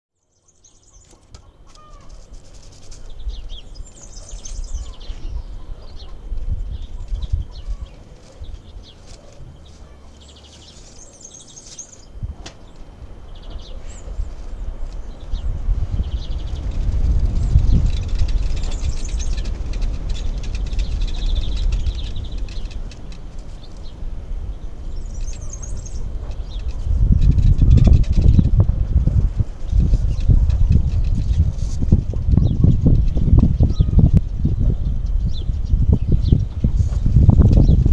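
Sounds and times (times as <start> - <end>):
birds chirping: 0.2 - 37.9
steady low rumble: 2.1 - 37.9.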